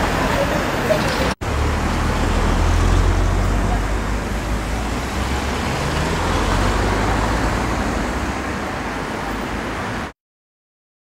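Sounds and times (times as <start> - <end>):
vehicle going by: 0.0 - 10.1
road traffic rush: 0.0 - 10.2.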